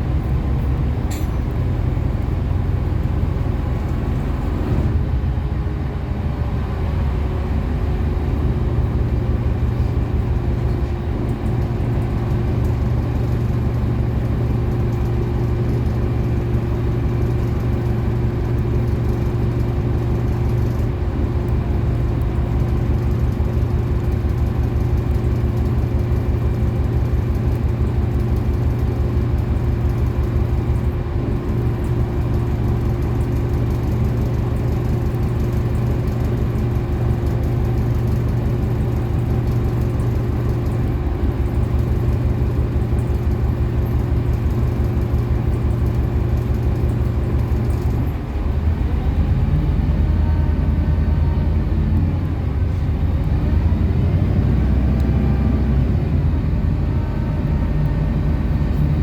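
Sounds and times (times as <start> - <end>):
bus engine running: 0.0 - 59.0
road noise: 0.0 - 59.0.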